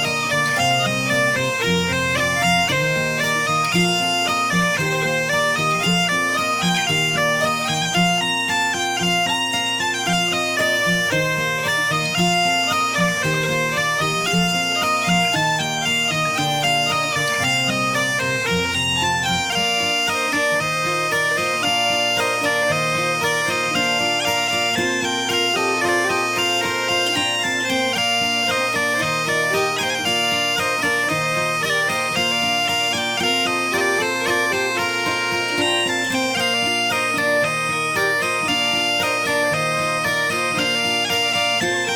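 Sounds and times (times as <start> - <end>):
bagpipe drone: 0.0 - 41.9
bagpipe melody: 0.0 - 41.9.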